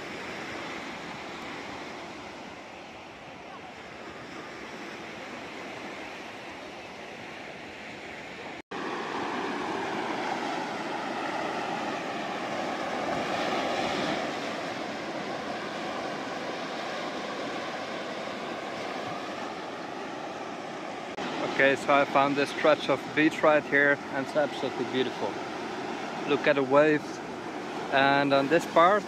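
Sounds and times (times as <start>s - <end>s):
waves breaking on shore: 0.0s - 29.0s.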